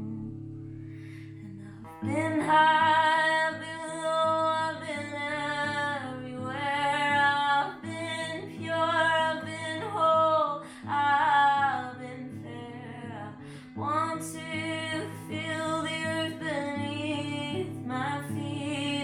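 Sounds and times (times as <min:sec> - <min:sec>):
acoustic guitar chords: 0:00.0 - 0:19.0
woman singing: 0:01.2 - 0:19.0.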